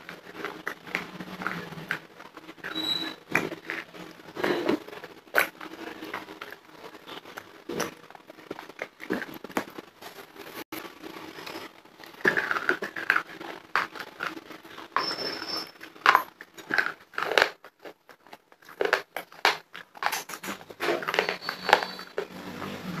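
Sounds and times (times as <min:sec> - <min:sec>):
chewing hard clay crunches: 0:00.0 - 0:22.4.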